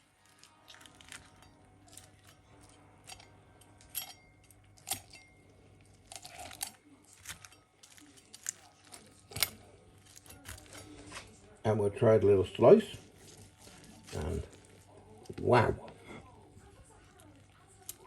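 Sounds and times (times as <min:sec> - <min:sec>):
chicken skin crackling: 0:00.0 - 0:03.3, 0:04.0 - 0:11.6, 0:12.6 - 0:18.0.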